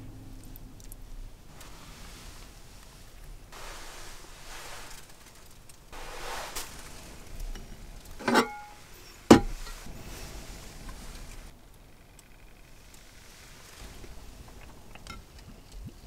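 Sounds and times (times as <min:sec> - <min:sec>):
soft rustling: 0:00.8 - 0:16.0.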